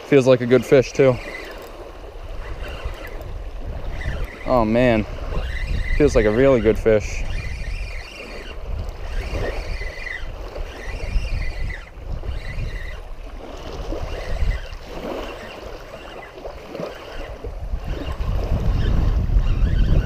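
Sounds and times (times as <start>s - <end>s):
waves lapping on gravel: 0.0s - 18.7s
wind buffeting microphone: 0.0s - 20.0s.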